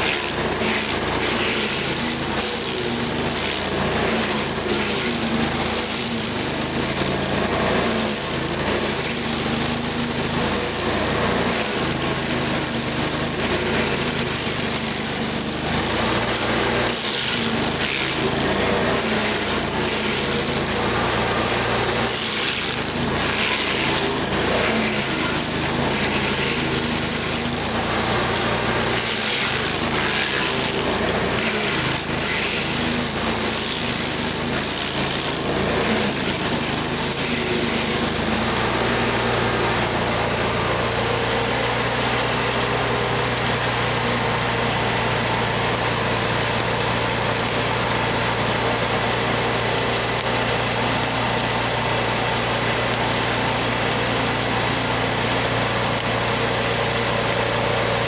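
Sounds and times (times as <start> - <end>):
cutter wheel grinding stump: 0.0 - 58.0
engine running: 0.0 - 58.0.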